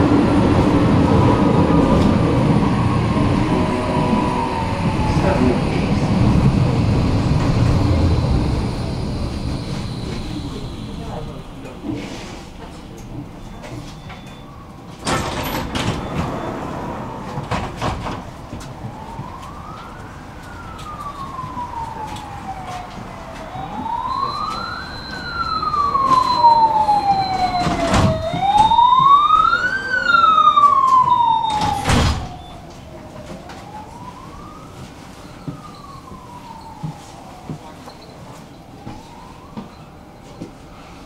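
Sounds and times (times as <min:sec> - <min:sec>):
emergency vehicle siren wailing: 0:00.0 - 0:12.0, 0:13.1 - 0:41.0.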